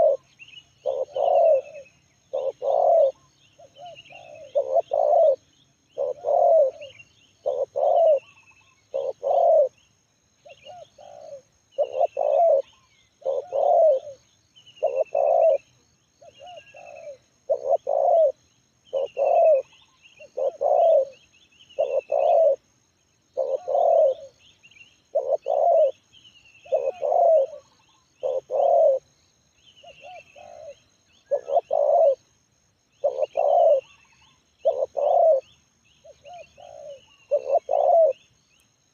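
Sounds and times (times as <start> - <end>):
dove cooing: 0.0 - 9.8, 10.4 - 14.2, 14.8 - 24.4, 25.0 - 29.1, 29.8 - 32.3, 32.9 - 38.3
small birds chirping: 0.0 - 38.9.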